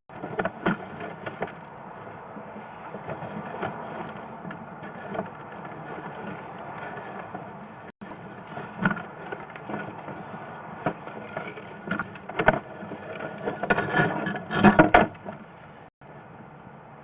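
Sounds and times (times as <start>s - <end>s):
equipment knocking and clattering: 0.1s - 15.6s
steady background hum: 0.1s - 17.0s.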